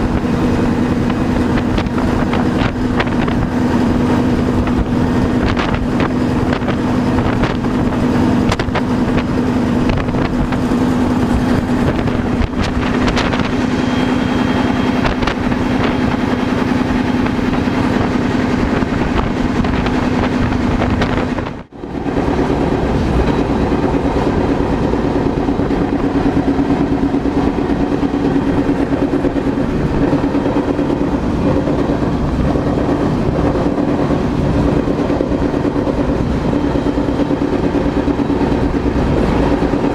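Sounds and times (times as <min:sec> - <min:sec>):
low hum: 0:00.0 - 0:39.9
train wheels rumbling on rail: 0:00.0 - 0:39.9
wind buffeting microphone: 0:00.0 - 0:39.9.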